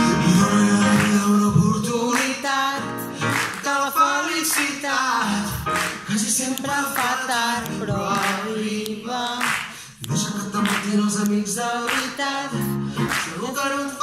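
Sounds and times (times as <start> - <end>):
grand piano: 0.0 - 14.0
person singing: 0.0 - 14.0.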